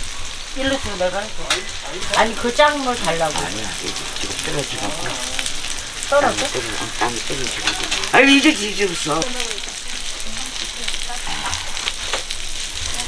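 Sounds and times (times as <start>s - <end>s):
oil sizzling on griddle: 0.0s - 13.0s.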